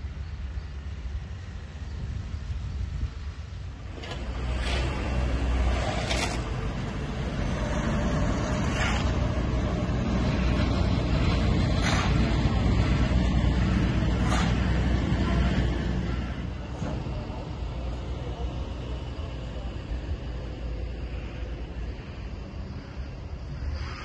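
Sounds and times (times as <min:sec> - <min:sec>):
diesel machinery rumbling: 0:00.0 - 0:24.0.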